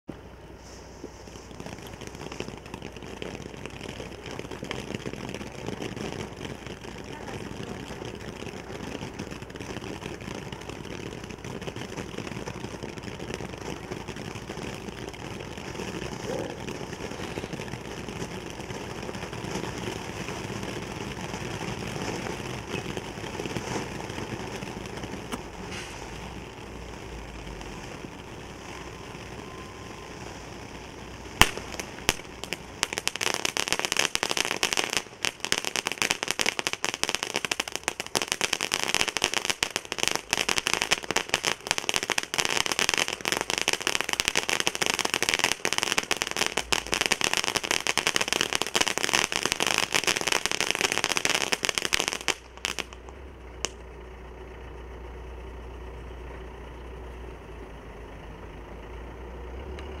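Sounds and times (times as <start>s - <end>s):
fireworks fountain hissing: 0.1s - 54.0s
dense crackle of sharp pops: 0.1s - 58.0s.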